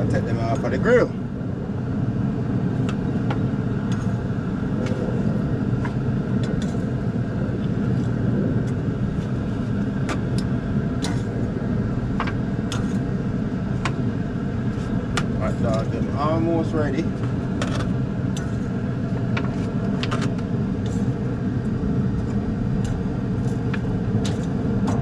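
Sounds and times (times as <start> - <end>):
cooking fire crackling and popping: 0.0 - 25.0
low rumble: 0.0 - 25.0.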